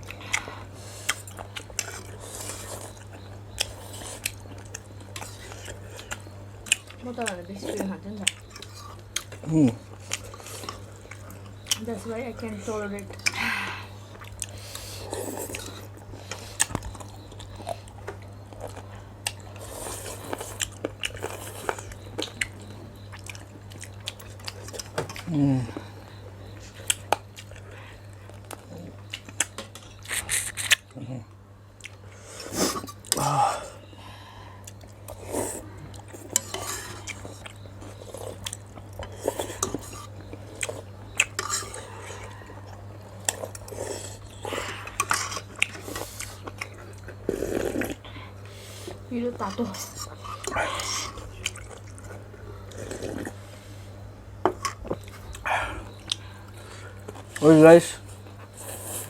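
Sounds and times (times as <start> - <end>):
person chewing noodle soup: 0.0 - 11.8, 13.1 - 59.0
steady low hum: 0.0 - 59.0.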